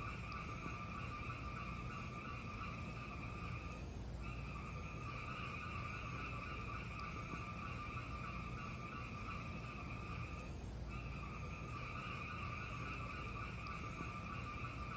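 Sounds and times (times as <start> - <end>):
fire crackles: 0.0 - 14.9
fireplace fire burning: 0.0 - 14.9.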